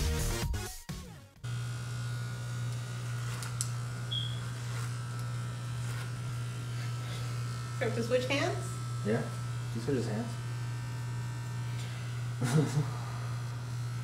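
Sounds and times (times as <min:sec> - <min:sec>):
electric hair clippers buzzing: 0:01.4 - 0:14.0.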